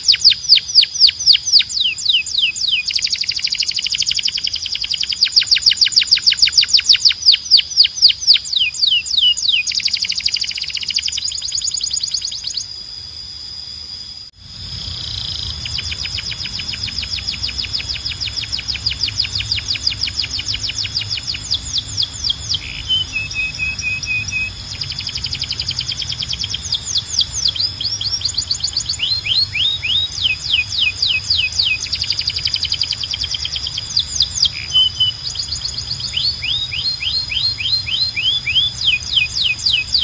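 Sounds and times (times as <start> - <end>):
canary singing: 0.0 - 12.8, 14.4 - 40.0.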